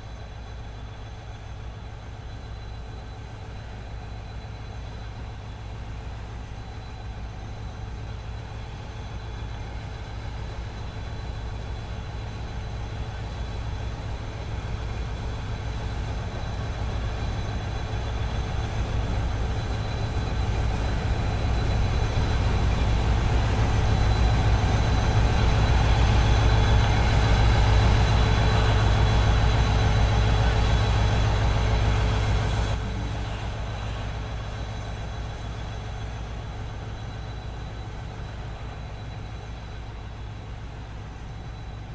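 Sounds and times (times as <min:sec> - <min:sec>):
diesel locomotive passing: 0:00.0 - 0:41.9.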